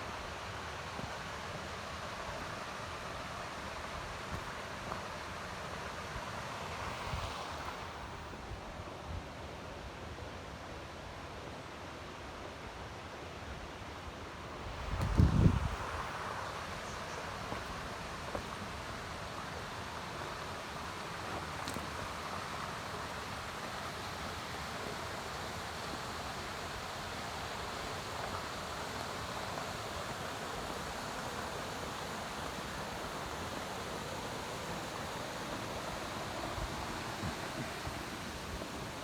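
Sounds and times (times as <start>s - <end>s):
rushing stream water: 0.0s - 39.0s.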